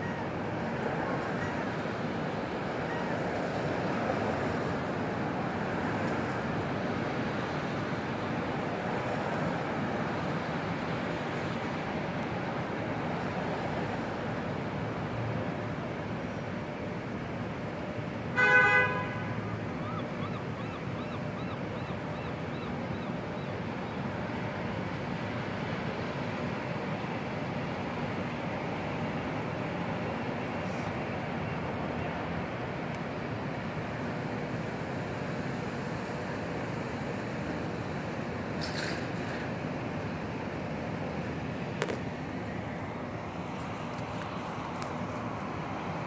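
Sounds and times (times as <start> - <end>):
city background rumble: 0.0 - 46.0
urban background noise: 0.0 - 46.0.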